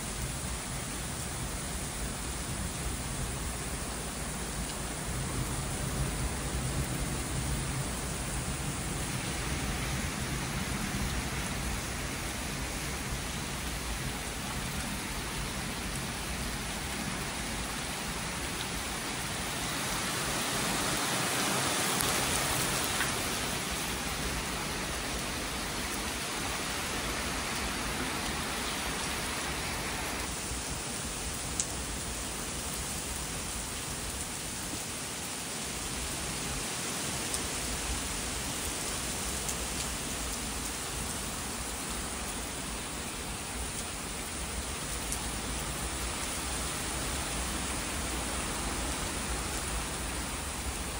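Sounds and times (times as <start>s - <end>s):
heavy rain through trees: 0.0s - 50.9s.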